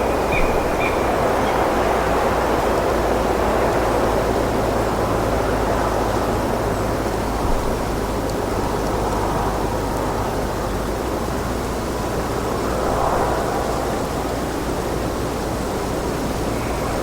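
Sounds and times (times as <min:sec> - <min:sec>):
wind blowing steadily: 0:00.0 - 0:17.0.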